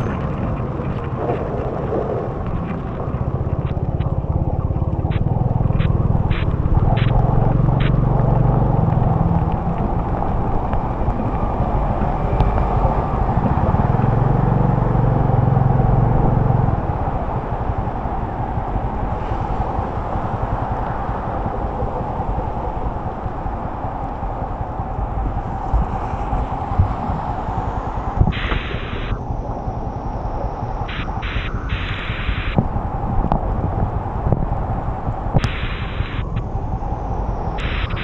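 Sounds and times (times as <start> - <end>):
motorbike engine drone: 0.0 - 38.0
rain and tyre spray: 0.0 - 38.0.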